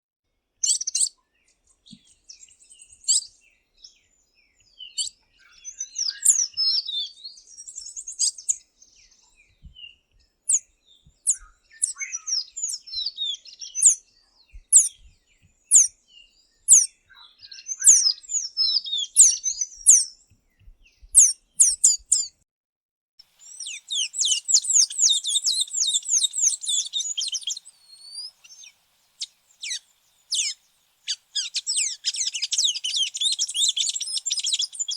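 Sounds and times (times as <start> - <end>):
birds chirping: 1.8 - 22.4, 23.3 - 34.9.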